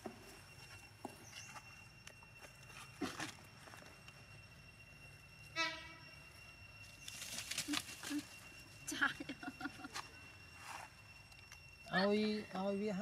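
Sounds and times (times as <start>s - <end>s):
steady high whine: 0.0s - 13.0s.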